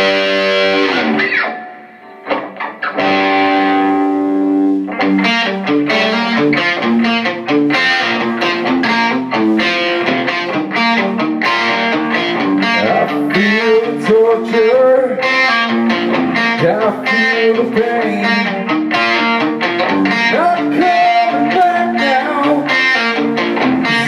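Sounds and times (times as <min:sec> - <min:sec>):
electric guitar chords: 0:00.0 - 0:24.0
electric guitar picked notes: 0:00.0 - 0:24.0.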